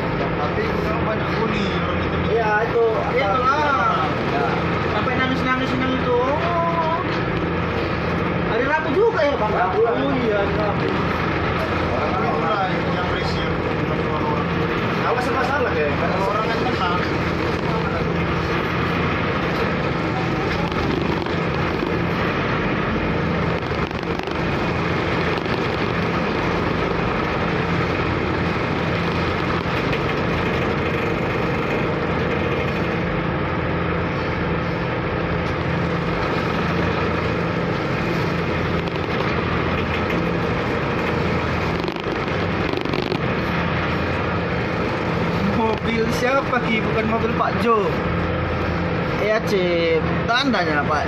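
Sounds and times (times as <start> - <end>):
ship engine drone: 0.0 - 51.0
waves: 0.0 - 51.0.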